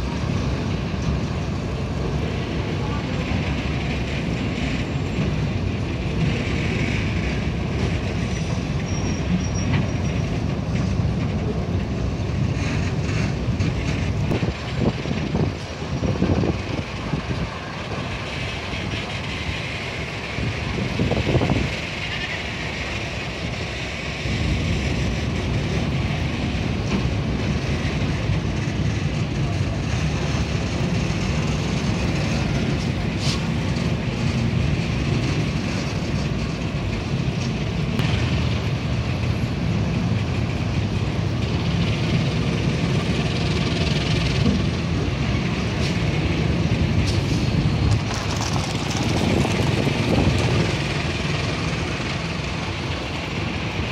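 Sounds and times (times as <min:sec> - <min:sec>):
freight wagons rolling on rails: 0:00.0 - 0:53.9.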